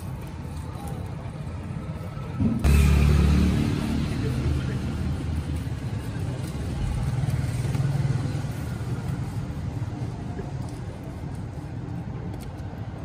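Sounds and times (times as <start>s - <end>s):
passing road traffic rumble: 0.0s - 13.0s.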